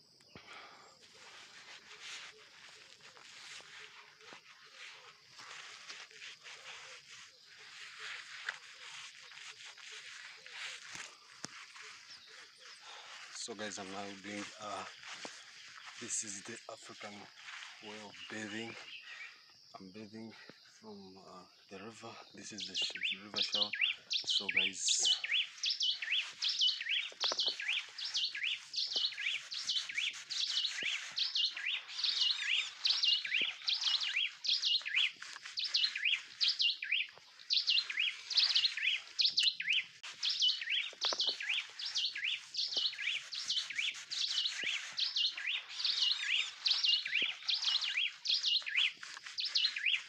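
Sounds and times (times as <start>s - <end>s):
birds chirping rapidly: 0.0s - 50.0s.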